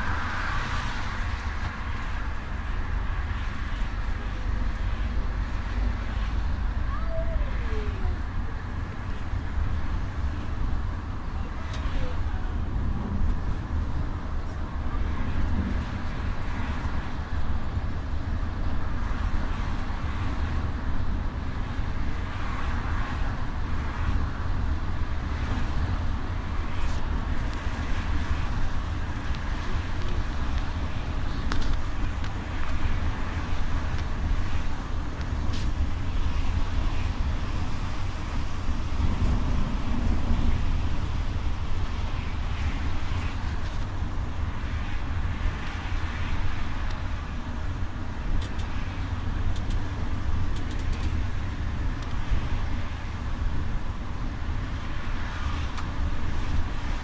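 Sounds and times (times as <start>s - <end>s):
bus engine and tyre rumble: 0.0s - 57.0s.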